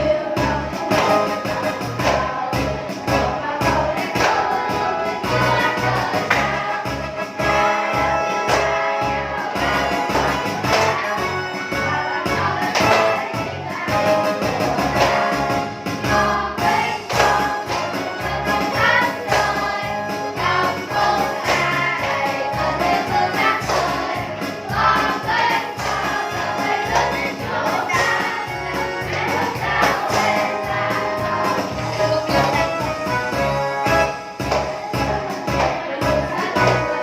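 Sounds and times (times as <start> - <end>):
music with singing voices: 0.0 - 37.0.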